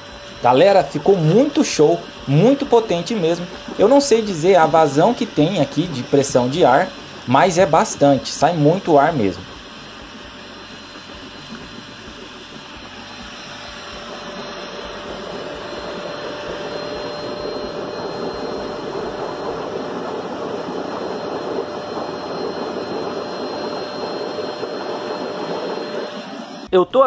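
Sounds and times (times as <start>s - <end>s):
water bubbling and churning: 0.0s - 26.5s
vacuum cleaner motor whining: 0.0s - 26.8s.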